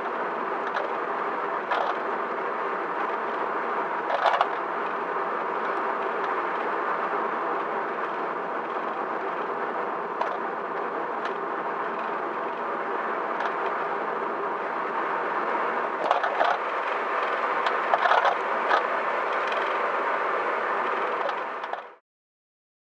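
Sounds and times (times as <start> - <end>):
road and tyre noise: 0.0 - 22.0.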